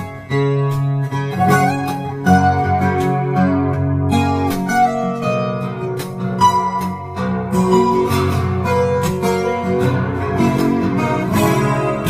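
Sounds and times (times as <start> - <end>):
fingerstyle acoustic guitar: 0.0 - 12.0.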